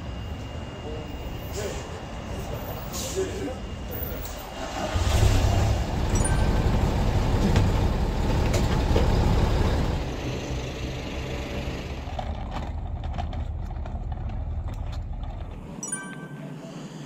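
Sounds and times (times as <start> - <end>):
bus engine idling: 0.0 - 15.6.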